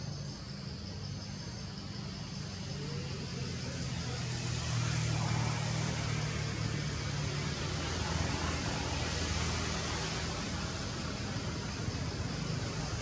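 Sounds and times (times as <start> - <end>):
road traffic engine hum: 0.0 - 13.0.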